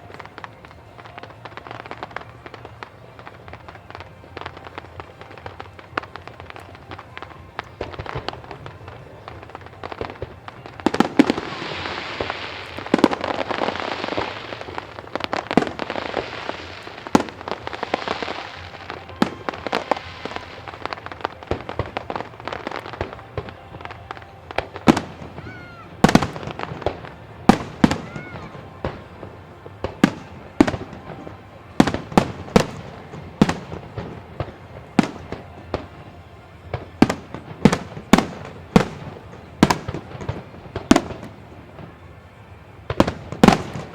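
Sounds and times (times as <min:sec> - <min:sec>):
fireworks crackling and bangs: 0:00.0 - 0:43.9.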